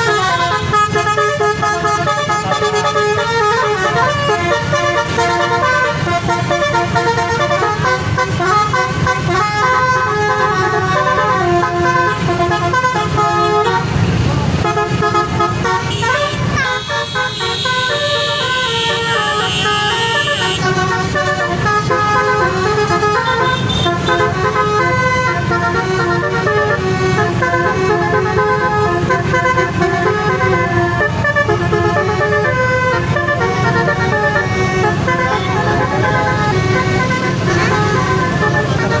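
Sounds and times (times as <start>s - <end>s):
multi-trumpet air horn tune: 0.0s - 39.0s.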